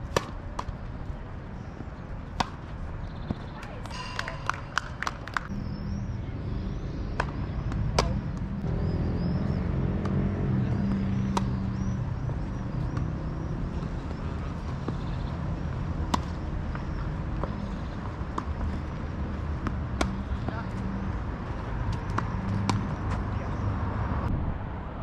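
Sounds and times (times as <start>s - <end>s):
tennis balls struck by rackets: 0.0s - 0.9s, 1.6s - 5.6s, 7.0s - 8.7s, 9.8s - 23.7s
vehicle engine humming: 0.0s - 24.3s.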